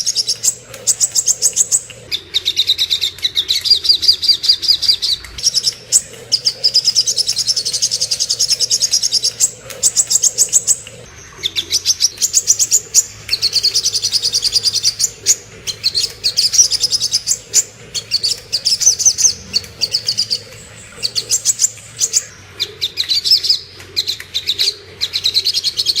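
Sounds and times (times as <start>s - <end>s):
songbird trilling: 0.0s - 26.0s.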